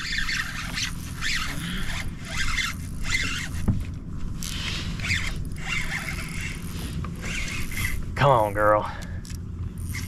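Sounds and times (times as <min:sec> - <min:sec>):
fishing reel zipping: 0:00.0 - 0:03.7, 0:04.4 - 0:08.5, 0:09.2 - 0:10.0.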